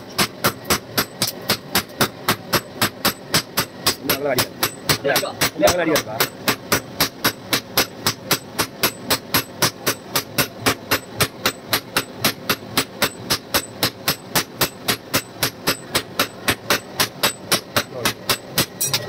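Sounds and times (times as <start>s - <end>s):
hammer striking metal on anvil: 0.0s - 19.0s.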